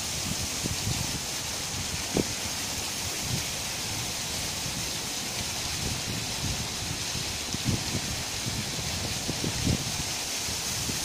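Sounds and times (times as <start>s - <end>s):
water splashing into a pond: 0.0s - 11.0s
wind rumbling on microphone: 0.0s - 11.0s.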